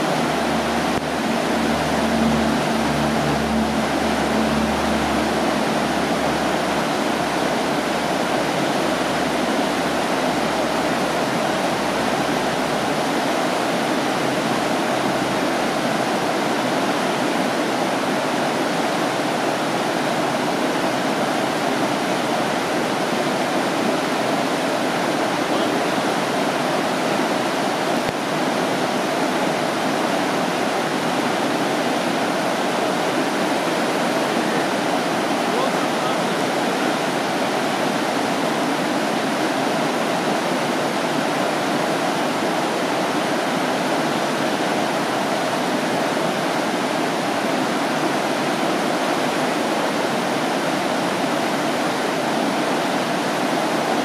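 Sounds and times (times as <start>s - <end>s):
river rapids rushing over stones: 0.0s - 54.0s.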